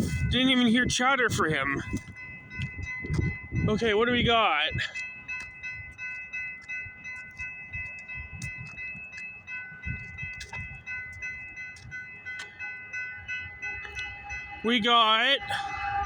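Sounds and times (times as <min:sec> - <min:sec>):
crossing bells ringing: 0:00.0 - 0:16.0
freight train rumble: 0:00.0 - 0:16.0.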